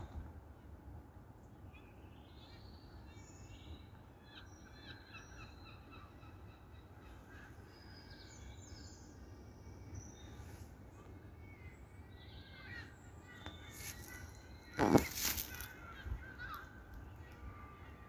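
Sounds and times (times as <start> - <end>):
small birds chirping: 1.5 - 18.0.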